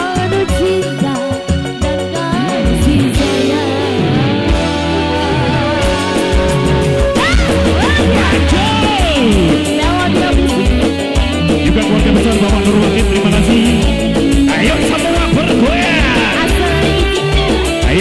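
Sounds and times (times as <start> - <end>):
bass: 0.0 - 18.0
keyboard: 0.0 - 18.0
sliding melody line: 2.4 - 18.0.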